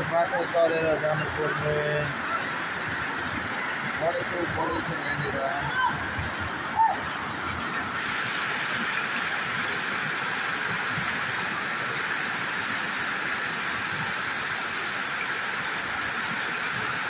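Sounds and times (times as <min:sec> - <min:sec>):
flood stream rushing: 0:00.0 - 0:17.0.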